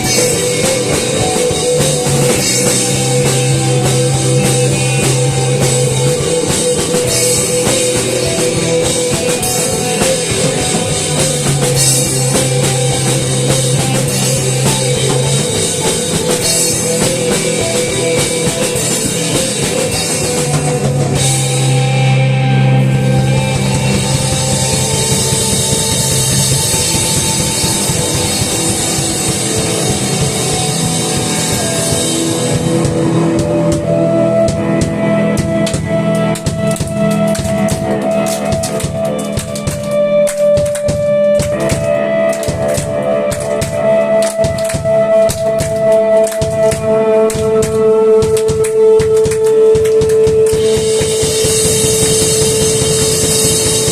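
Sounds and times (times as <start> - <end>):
rock music with drums and guitars: 0.0 - 53.9.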